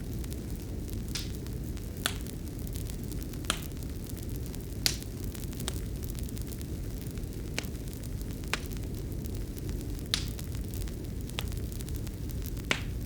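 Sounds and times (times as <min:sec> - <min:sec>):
sharp pops of fire: 0:00.0 - 0:13.0
wood fire crackling: 0:00.0 - 0:13.0.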